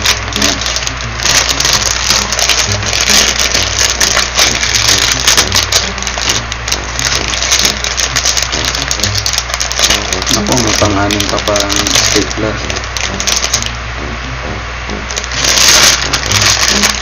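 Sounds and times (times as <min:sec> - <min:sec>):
plastic bag crinkling: 0:00.0 - 0:13.7, 0:15.1 - 0:17.0.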